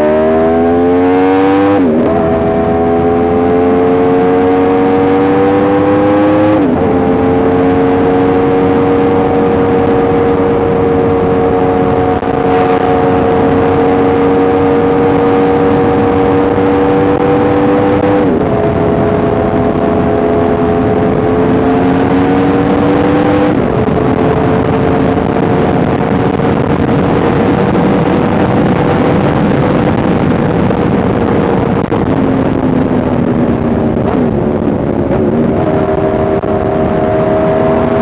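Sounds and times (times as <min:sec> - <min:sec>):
motorcycle engine accelerating: 0:00.0 - 0:38.0
wind rushing: 0:00.0 - 0:38.0.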